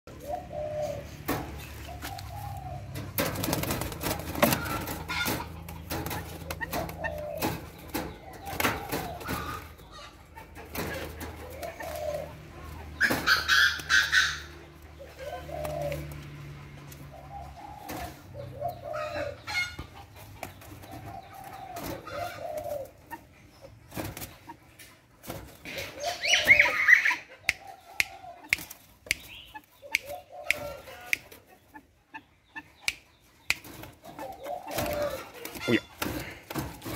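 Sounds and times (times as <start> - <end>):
moorhen clucking calls: 0.1 - 25.0, 25.6 - 36.9.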